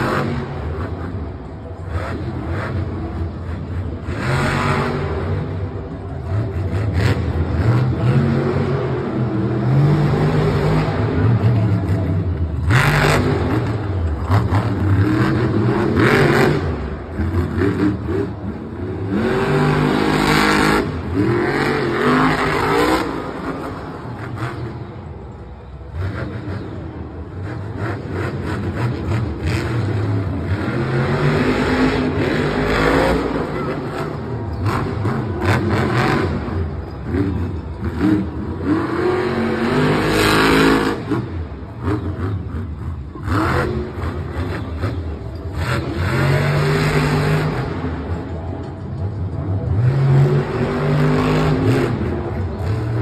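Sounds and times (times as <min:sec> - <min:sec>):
truck engines revving: 0:00.0 - 0:53.0.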